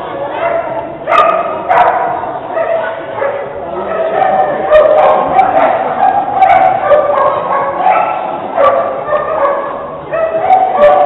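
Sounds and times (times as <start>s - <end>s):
dog barking and yipping: 0.4s - 11.0s.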